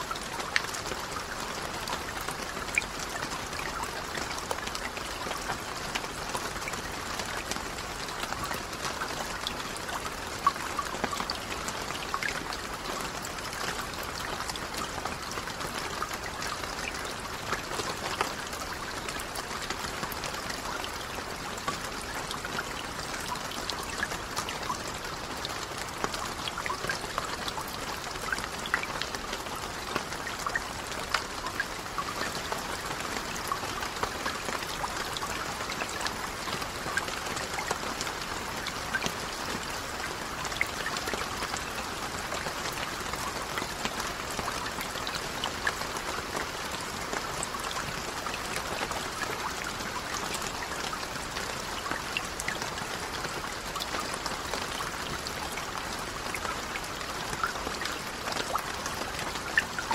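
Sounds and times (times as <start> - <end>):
rain falling on lake: 0.0 - 59.9
raindrop splashes: 0.0 - 59.9.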